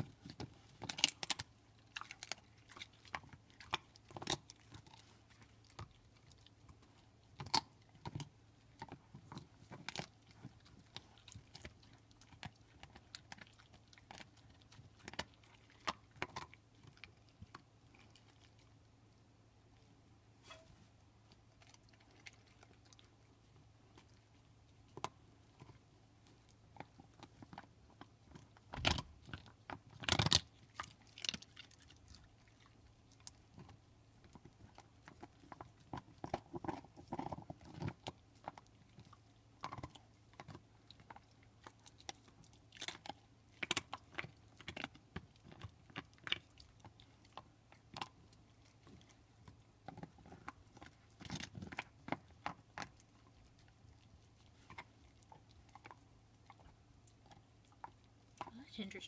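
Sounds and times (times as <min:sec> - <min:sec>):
dog crunching on a bone: 0:00.0 - 0:59.0.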